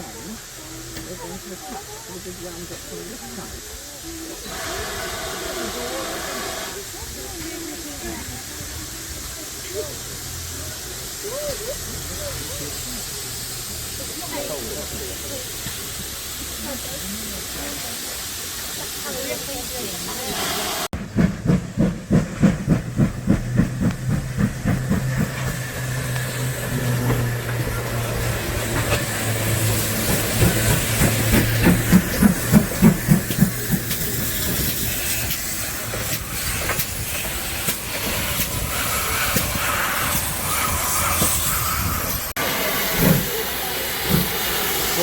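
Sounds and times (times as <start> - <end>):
steam hissing: 0.0 - 45.0
steam locomotive exhaust chuffing: 0.0 - 45.0.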